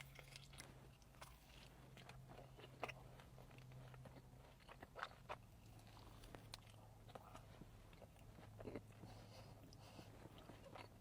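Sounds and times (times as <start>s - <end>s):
chewing cookie: 0.0s - 11.0s
faint low hum: 0.0s - 11.0s.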